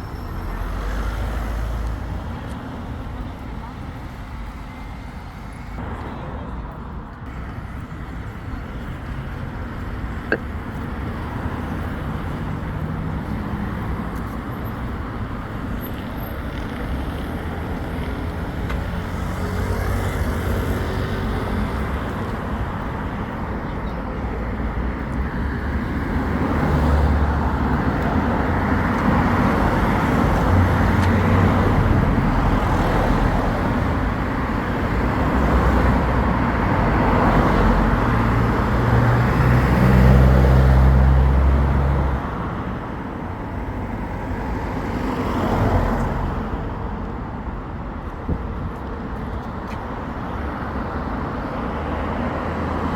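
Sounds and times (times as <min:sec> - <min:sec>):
road traffic passing: 0:00.0 - 0:52.9.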